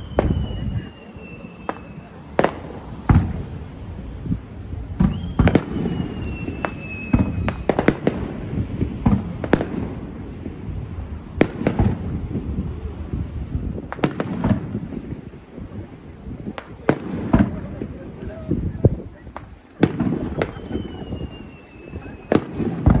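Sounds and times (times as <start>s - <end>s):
falling firework whistle: 0.0s - 23.0s
firework bangs: 0.0s - 23.0s.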